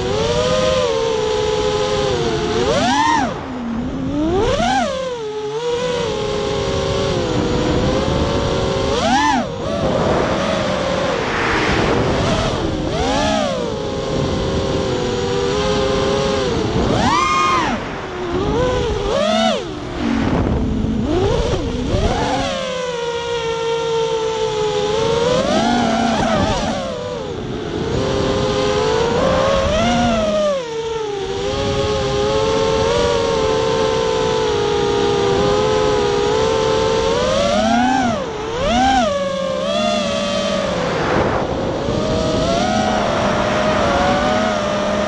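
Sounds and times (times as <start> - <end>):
quadcopter motors whining: 0.0 - 45.0.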